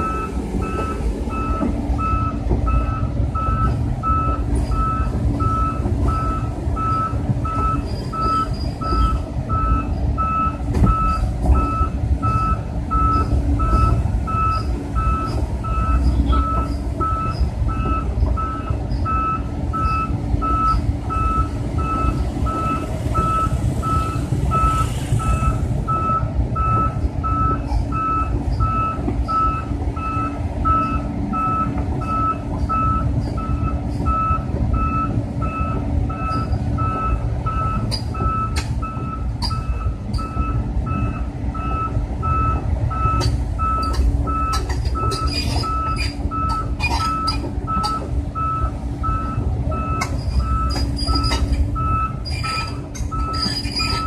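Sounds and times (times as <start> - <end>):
diesel engine humming: 0.0 - 54.0
excavator travel alarm beeping: 0.0 - 54.0.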